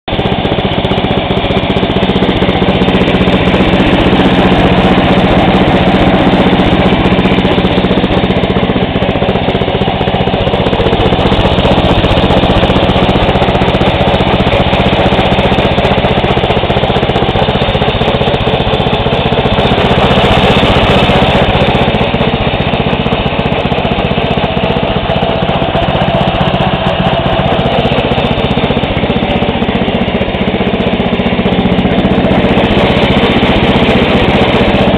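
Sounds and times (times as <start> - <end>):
lawn tractor engine running: 0.1 - 34.9.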